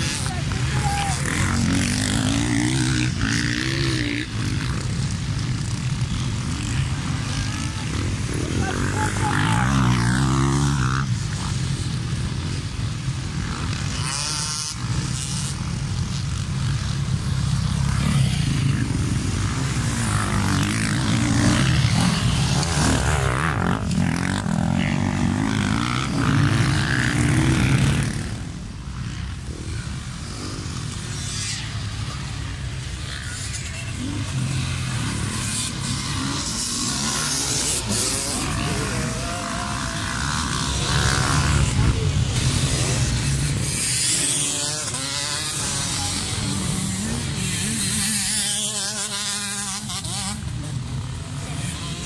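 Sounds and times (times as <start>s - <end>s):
dirt bikes revving: 0.0s - 52.0s.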